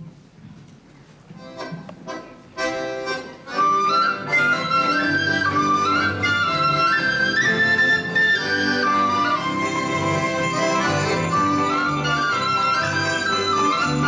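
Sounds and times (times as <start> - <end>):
accordion playing carol tune: 1.3 - 14.0
band playing: 1.4 - 14.0.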